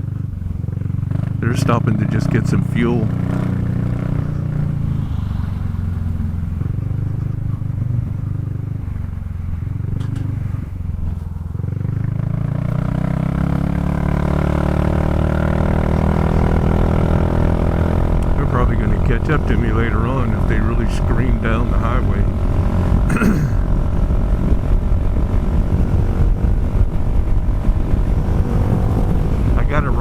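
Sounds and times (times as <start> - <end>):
scooter engine running: 0.0 - 30.0.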